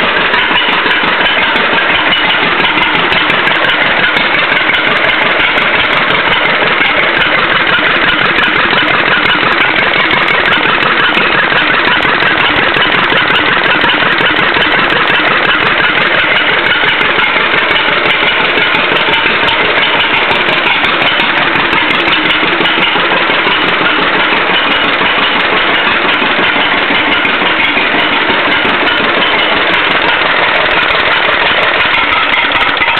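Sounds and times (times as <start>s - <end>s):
unmuffled engine running: 0.0s - 32.9s.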